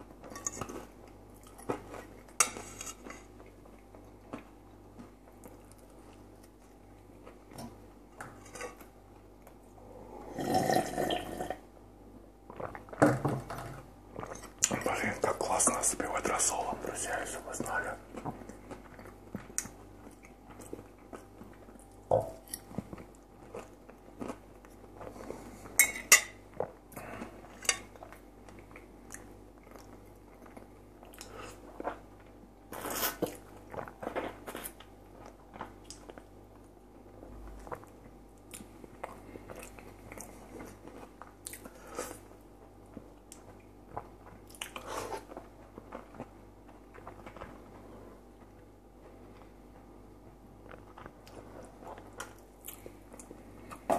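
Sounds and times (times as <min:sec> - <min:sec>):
man chewing crunchy food: 0:00.1 - 0:08.0, 0:14.1 - 0:25.8, 0:26.4 - 0:53.9.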